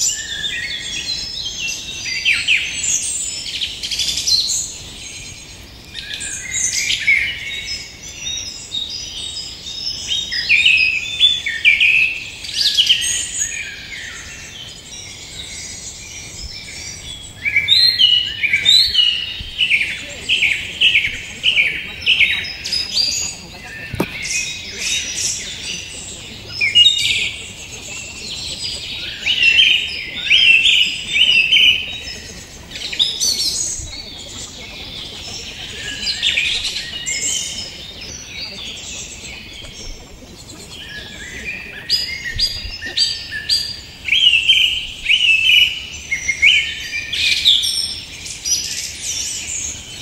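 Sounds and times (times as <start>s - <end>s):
songbirds chirping and singing: 0.0s - 50.0s.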